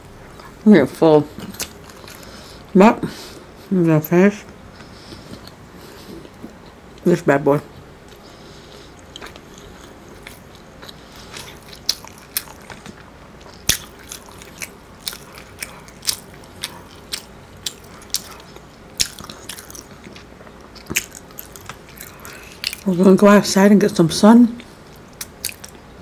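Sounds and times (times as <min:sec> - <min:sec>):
person chewing food: 0:01.3 - 0:03.7, 0:04.5 - 0:07.1, 0:07.7 - 0:22.9, 0:24.6 - 0:26.0.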